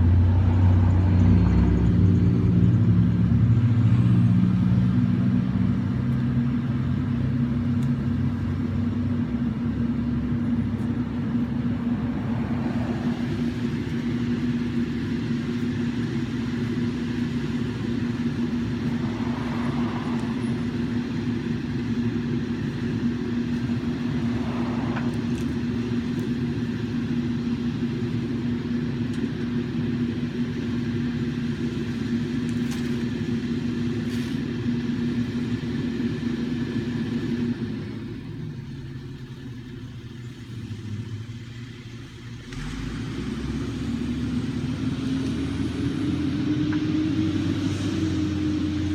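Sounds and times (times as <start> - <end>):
truck engine humming: 0.0 - 48.9.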